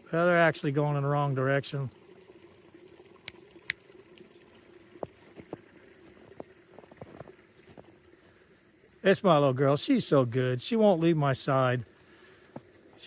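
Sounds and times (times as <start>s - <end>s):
creek trickling under ice: 0.0s - 13.0s.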